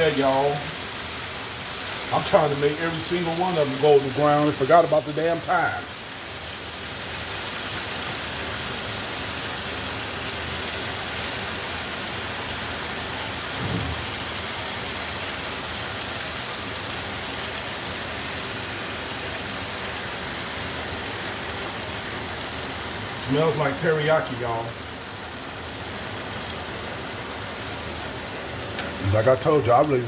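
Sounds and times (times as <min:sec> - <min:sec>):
chicken sizzling in a frying pan: 0:00.0 - 0:30.0.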